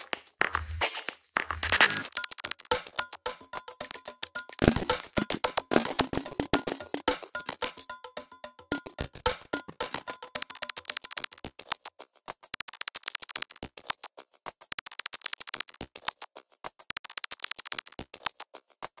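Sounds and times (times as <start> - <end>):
glitchy electronic clicks and crackles: 0.3 - 7.9, 8.7 - 18.5.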